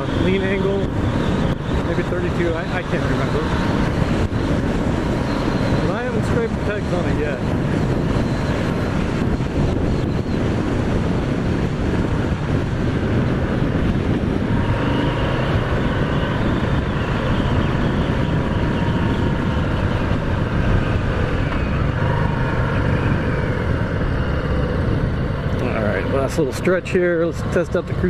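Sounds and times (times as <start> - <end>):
motorcycle engine running: 0.0 - 28.0
wind noise: 0.0 - 28.0.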